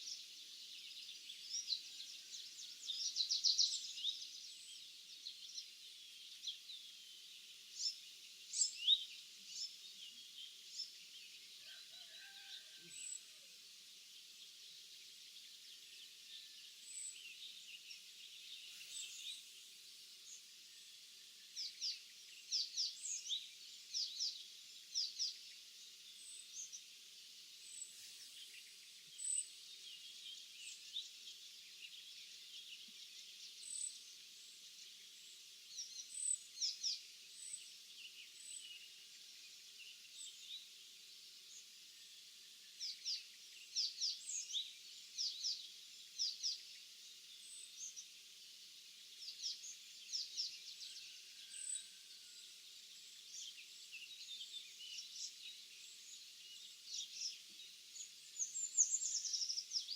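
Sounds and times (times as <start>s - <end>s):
background hiss: 0.0s - 59.9s
small songbirds chirping: 0.0s - 59.9s.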